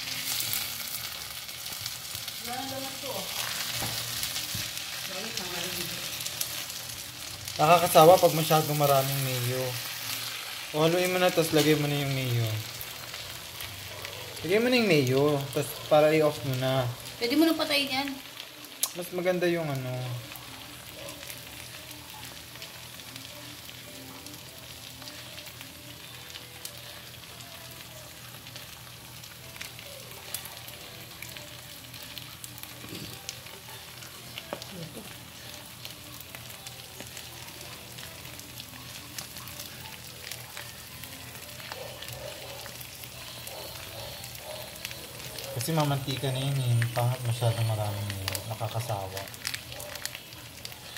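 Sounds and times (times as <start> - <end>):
meat sizzling in a frying pan: 0.0 - 50.9.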